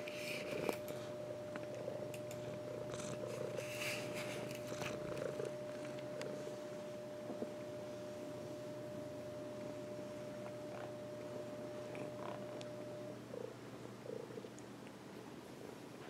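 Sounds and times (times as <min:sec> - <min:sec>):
cat purring: 0:00.2 - 0:14.7.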